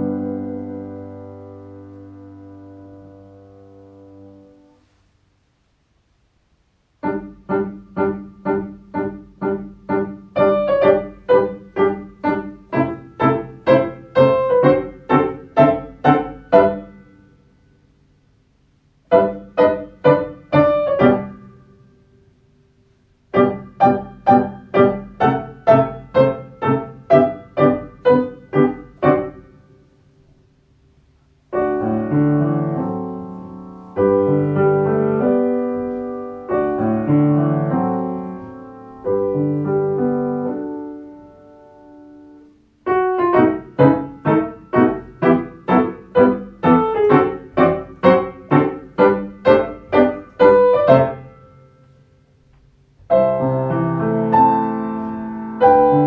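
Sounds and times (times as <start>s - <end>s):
piano music: 0.0s - 4.8s, 7.0s - 17.4s, 19.1s - 22.4s, 23.3s - 30.0s, 31.5s - 52.1s, 53.0s - 56.0s.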